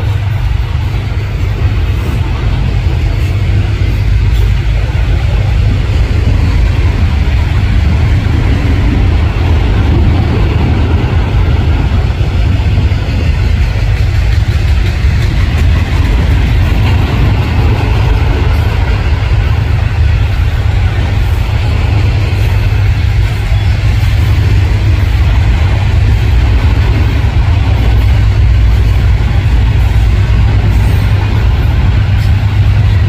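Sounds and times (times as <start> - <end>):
freight train rumbling by: 0.0 - 33.0.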